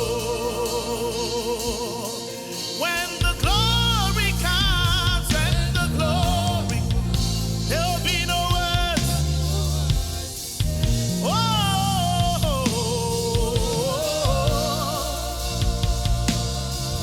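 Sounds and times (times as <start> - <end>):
gospel band playing: 0.0 - 17.0.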